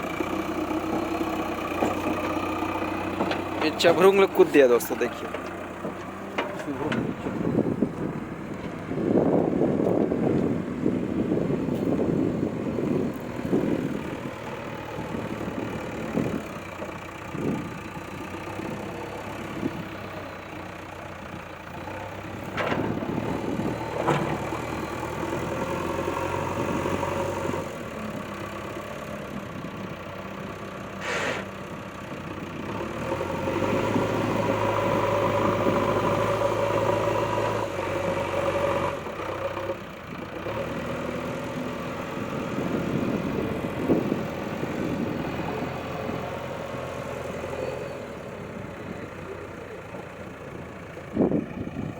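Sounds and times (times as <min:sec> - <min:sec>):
diesel engine under load: 0:00.0 - 0:51.9.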